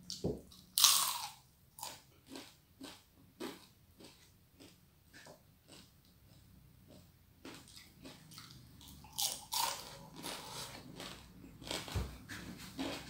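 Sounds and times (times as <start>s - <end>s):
crunching and chewing fried fish: 0.1s - 13.0s.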